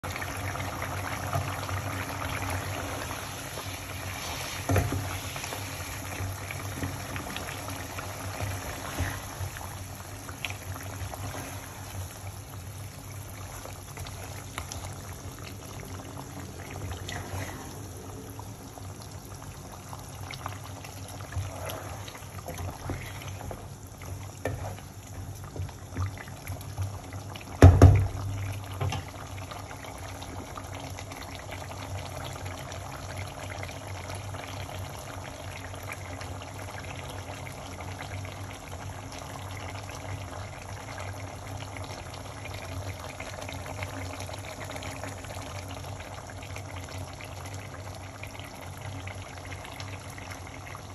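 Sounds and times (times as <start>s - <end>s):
gravy simmering and bubbling: 0.0s - 50.9s.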